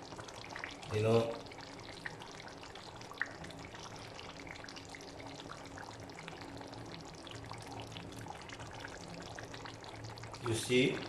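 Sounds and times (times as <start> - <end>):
pot boiling with bubbling: 0.0 - 11.0.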